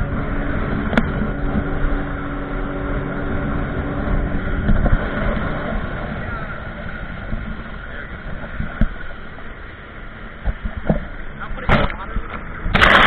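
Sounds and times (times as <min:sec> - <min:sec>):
jet ski engine running: 0:00.0 - 0:13.0
water rushing: 0:00.0 - 0:13.0
wind: 0:00.0 - 0:13.0.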